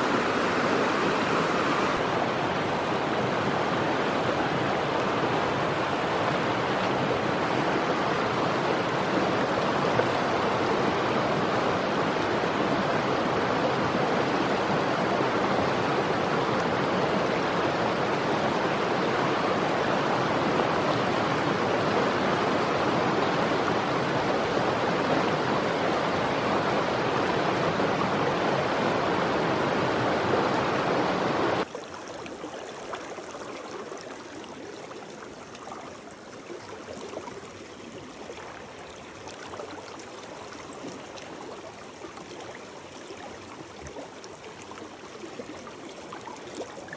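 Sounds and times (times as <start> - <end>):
soft flow of shallow water: 0.0 - 46.9
stream rushing over rocks: 0.0 - 46.9.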